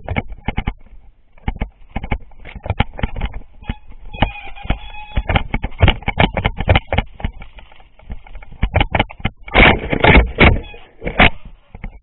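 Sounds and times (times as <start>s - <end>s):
mountain bike rattling and knocking: 0.0s - 12.0s.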